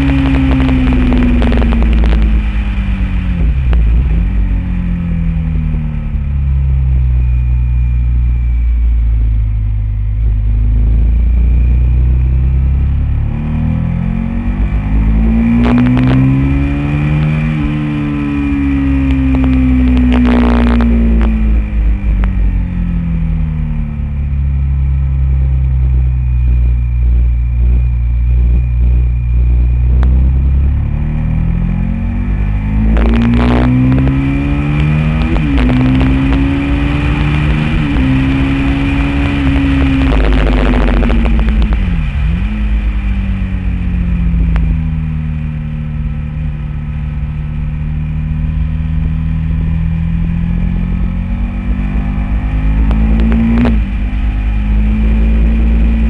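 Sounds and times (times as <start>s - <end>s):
motorcycle engine on track: 0.0s - 56.0s
wind noise: 0.0s - 56.0s.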